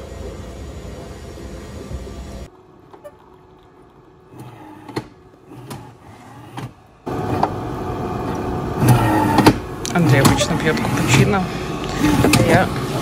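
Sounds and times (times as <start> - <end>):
coffee machine humming: 0.0 - 13.0.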